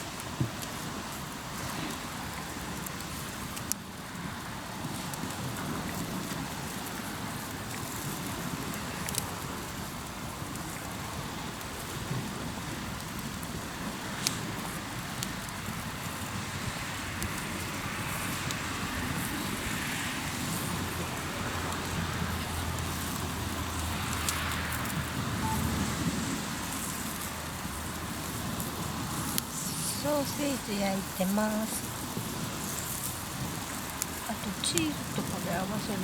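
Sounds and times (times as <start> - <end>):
campfire crackling and popping: 0.0 - 36.0
waves on the shore: 0.0 - 36.0.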